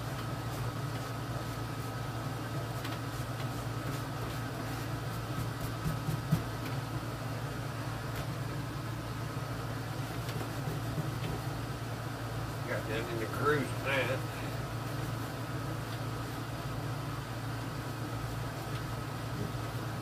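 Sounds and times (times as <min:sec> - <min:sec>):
mechanical hum and hiss: 0:00.0 - 0:20.0.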